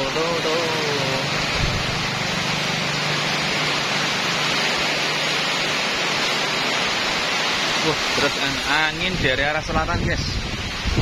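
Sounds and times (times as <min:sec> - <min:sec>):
heavy rain on leaves and roof: 0:00.0 - 0:11.0.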